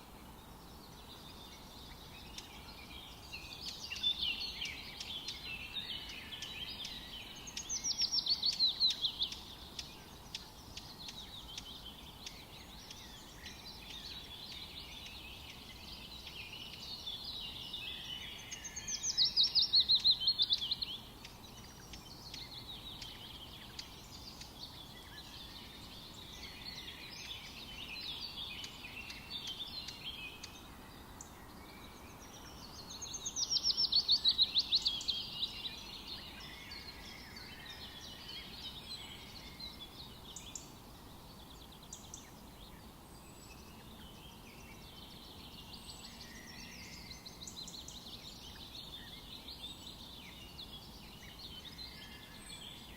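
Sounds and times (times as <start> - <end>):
faint steady hiss: 0.0 - 52.9
birds chirping and singing: 0.8 - 52.9.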